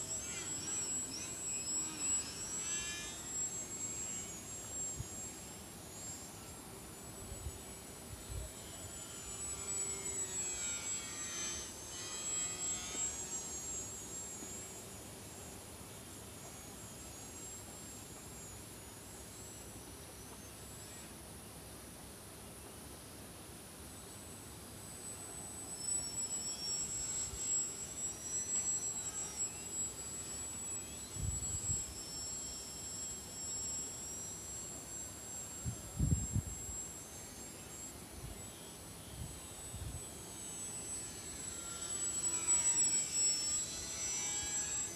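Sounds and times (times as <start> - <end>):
model airplane motor whining: 0.0 - 21.1, 24.8 - 44.9.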